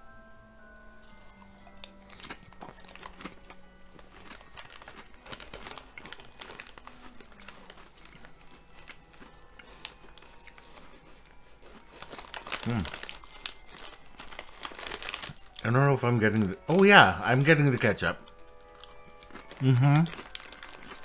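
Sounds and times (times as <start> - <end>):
faint background music: 0.0 - 21.0
chips being chewed: 1.0 - 21.0.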